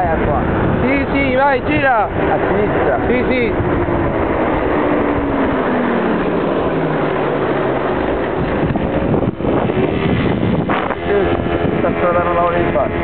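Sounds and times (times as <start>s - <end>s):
scooter engine running: 0.0s - 13.0s
wind buffeting on microphone: 0.0s - 13.0s.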